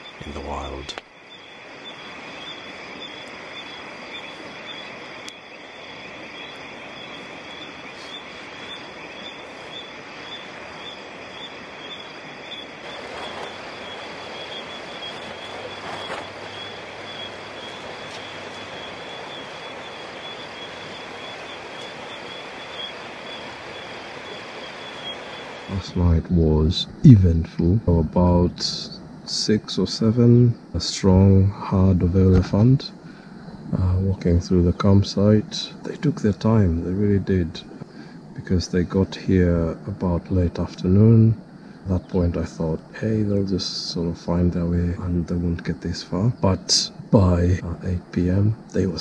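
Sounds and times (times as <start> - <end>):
campfire crackling: 0.0 - 49.0
high pulsing insect trill: 0.0 - 49.0
insects chirping: 0.0 - 49.0.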